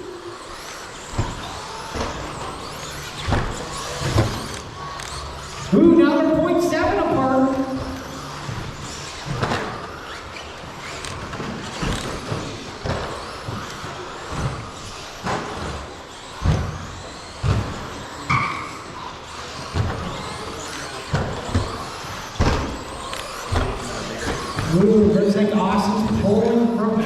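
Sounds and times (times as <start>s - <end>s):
toy car motors and tyres hissing: 0.0s - 5.7s, 7.7s - 24.8s.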